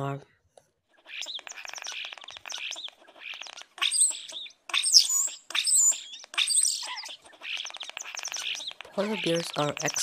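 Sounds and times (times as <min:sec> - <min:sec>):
chicks peeping: 0:01.0 - 0:10.0.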